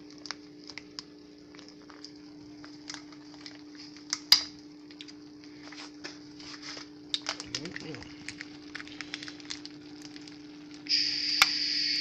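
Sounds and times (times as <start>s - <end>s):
package rustling and clicking: 0.0s - 5.2s, 5.9s - 10.8s
steady low hum: 0.0s - 12.0s.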